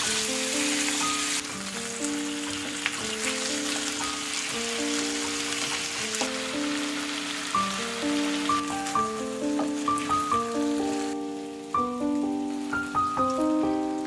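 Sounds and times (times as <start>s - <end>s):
background music: 0.0s - 14.0s
meat sizzling in a pan: 0.0s - 14.0s.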